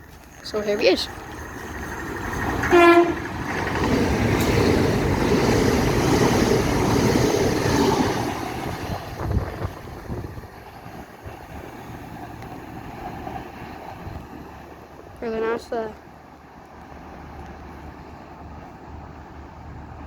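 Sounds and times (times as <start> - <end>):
train passing with rushing rumble: 0.0 - 20.0.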